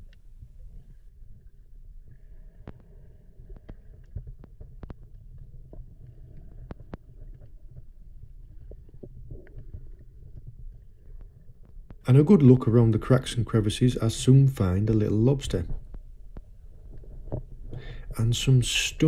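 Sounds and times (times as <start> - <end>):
underwater clicks and crackles: 0.0 - 19.0
underwater low rumble: 0.0 - 19.0.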